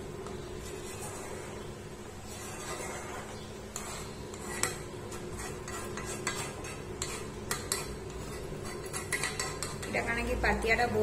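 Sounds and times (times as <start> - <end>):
metal spoon scraping a pan: 0.2 - 11.0.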